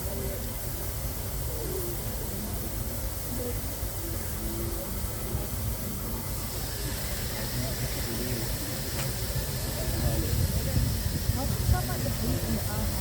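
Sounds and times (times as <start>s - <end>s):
train standing rumble and hiss: 0.0s - 13.0s.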